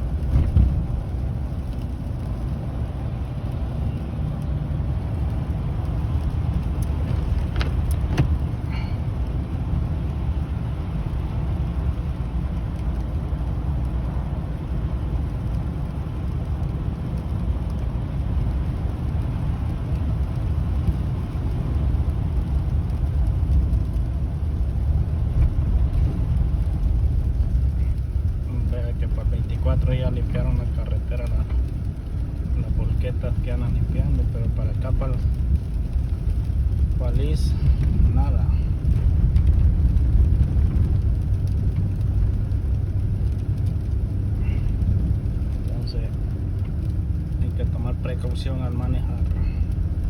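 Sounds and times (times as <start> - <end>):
car driving rumble: 0.0 - 50.0.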